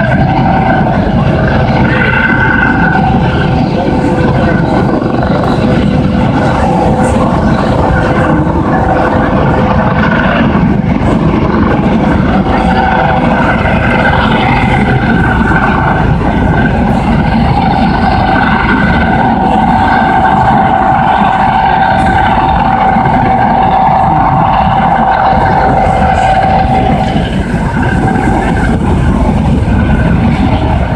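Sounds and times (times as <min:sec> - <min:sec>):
helicopter rotor noise: 0:00.0 - 0:30.9
helicopter turbine whine: 0:00.0 - 0:30.9.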